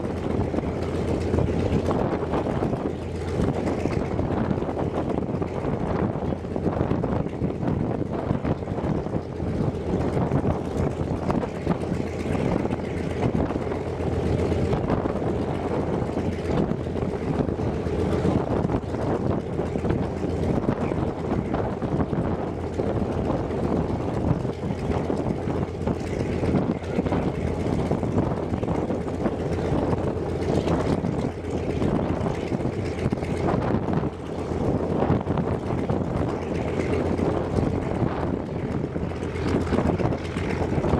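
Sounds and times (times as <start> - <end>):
radial aircraft engine running: 0.0 - 40.9.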